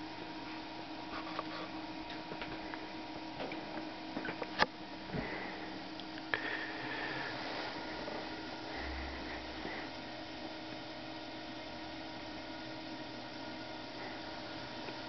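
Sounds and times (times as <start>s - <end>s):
electrical hum and whine: 0.0s - 15.0s.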